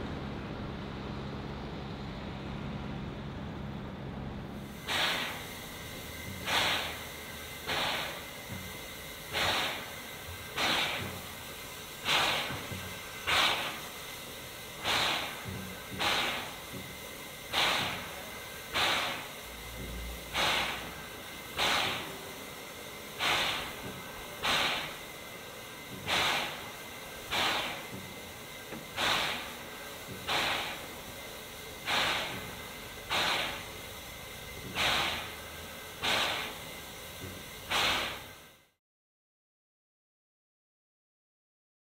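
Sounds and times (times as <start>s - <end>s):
steam locomotive hissing puffs: 4.6s - 38.8s.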